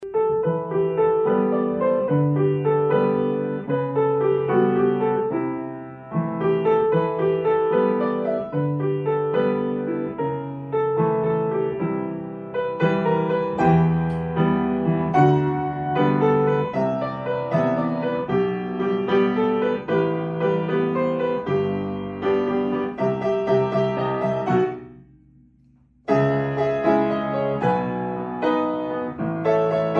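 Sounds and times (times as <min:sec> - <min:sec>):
gentle piano music: 0:00.0 - 0:25.2, 0:26.0 - 0:29.9.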